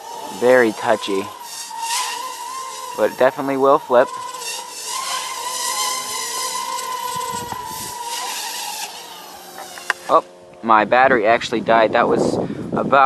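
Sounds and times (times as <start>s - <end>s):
small drone motors whining: 0.0s - 11.4s.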